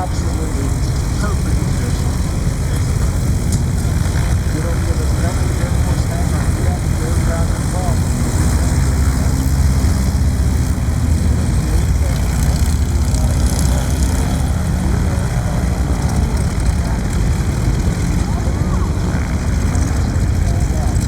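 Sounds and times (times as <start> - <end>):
propeller plane engines droning: 0.0 - 21.0.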